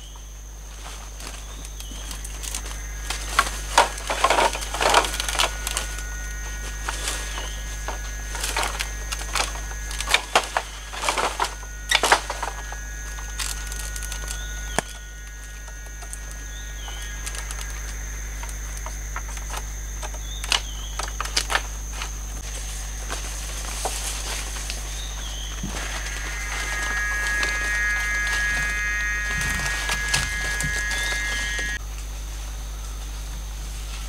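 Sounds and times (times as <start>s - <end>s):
high-pitched hum: 0.0s - 34.0s.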